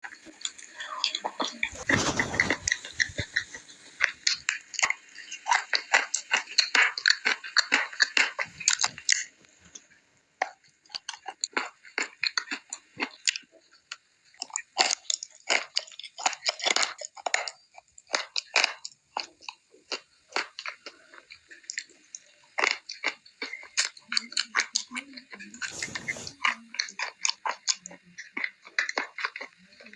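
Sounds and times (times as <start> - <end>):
crunching and chewing clay: 0.0 - 29.9.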